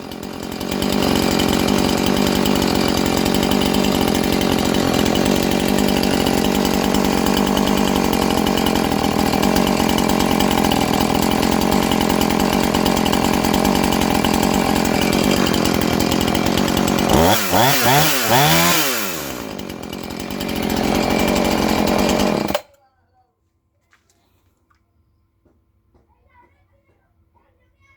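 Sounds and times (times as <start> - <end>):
chainsaw running and revving: 0.0 - 22.8.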